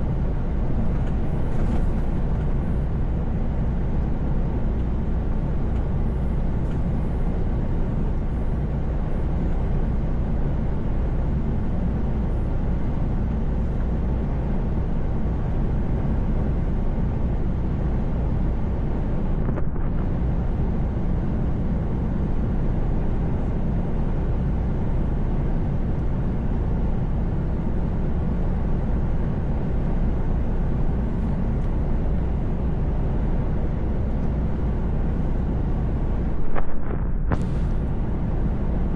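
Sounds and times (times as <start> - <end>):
diesel engine drone: 0.0 - 38.9
road noise: 0.0 - 38.9.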